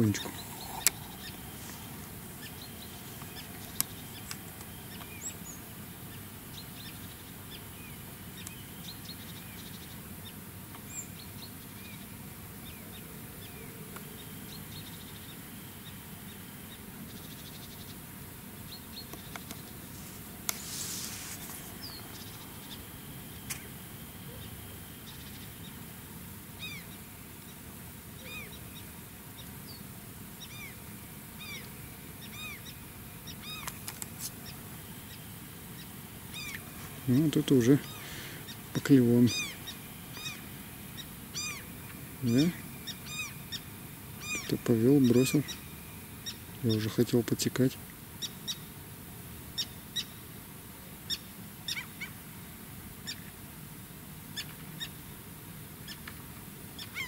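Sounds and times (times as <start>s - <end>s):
small birds chirping: 0.0s - 25.9s, 26.6s - 48.8s, 51.1s - 52.2s.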